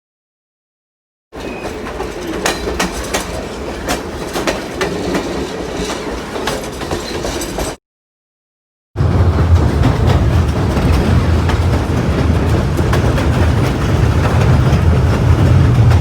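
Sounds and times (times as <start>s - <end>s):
railroad cars rumbling: 1.4s - 7.8s, 9.0s - 16.0s.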